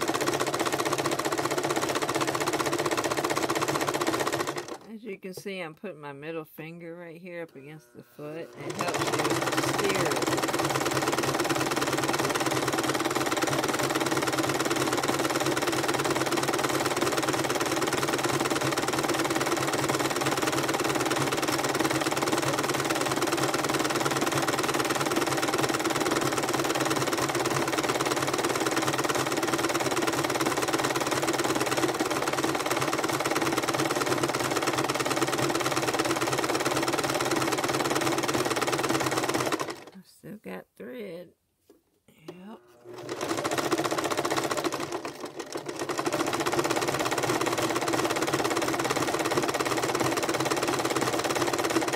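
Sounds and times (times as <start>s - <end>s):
electric sewing machine running: 0.0s - 4.9s, 8.2s - 39.9s, 42.6s - 51.9s.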